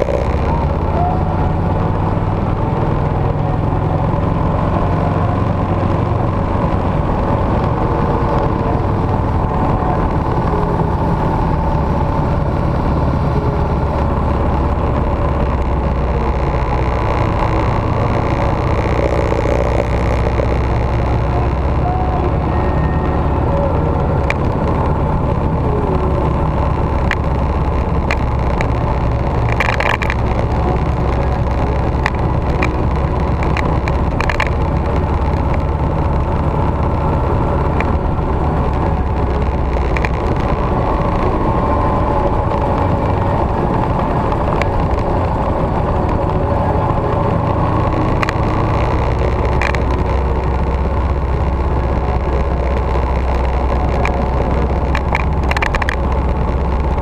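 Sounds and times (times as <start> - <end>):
scattered clicks: 0.0 - 1.8, 2.4 - 57.0
motorcycle engine: 0.0 - 57.0
wind rumble: 0.0 - 57.0.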